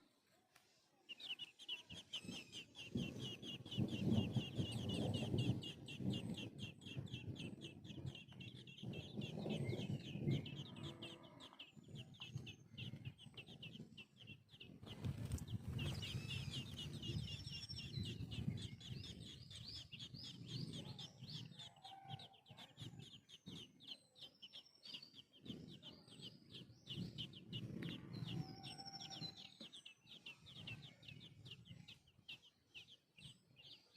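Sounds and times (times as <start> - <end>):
baby birds cheeping: 0.0 - 33.9.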